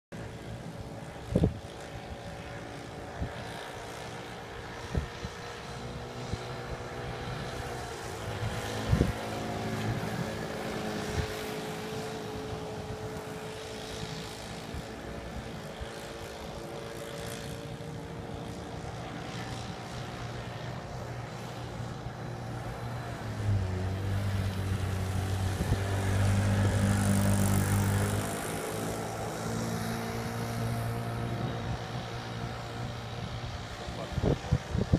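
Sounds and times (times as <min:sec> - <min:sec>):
model boat engine buzzing: 0:00.2 - 0:34.9.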